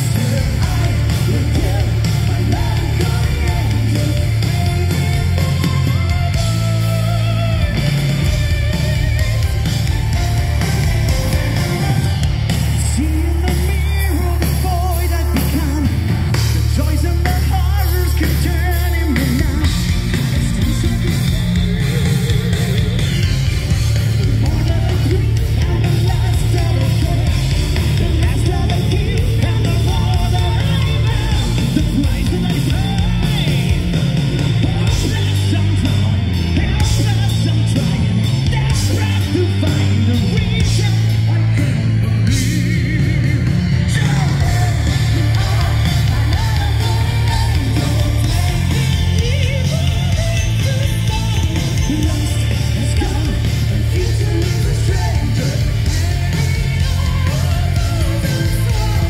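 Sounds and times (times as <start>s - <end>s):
man singing: 0.0s - 59.0s
metal band playing live: 0.0s - 59.0s.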